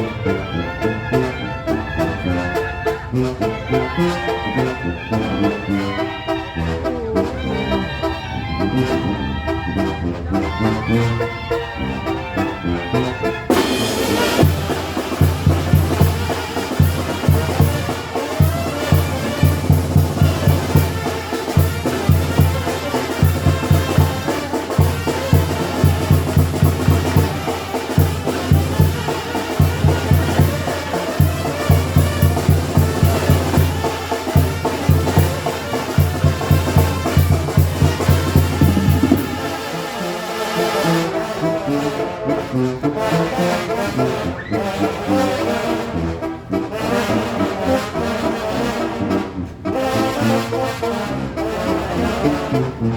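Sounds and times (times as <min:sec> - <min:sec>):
brass band playing: 0:00.0 - 0:52.9.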